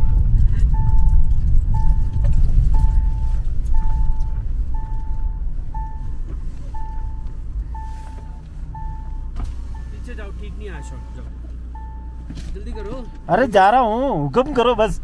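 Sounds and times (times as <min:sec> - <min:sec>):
engine and tyre rumble: 0:00.0 - 0:15.0
vehicle warning chime beeping: 0:00.0 - 0:15.0.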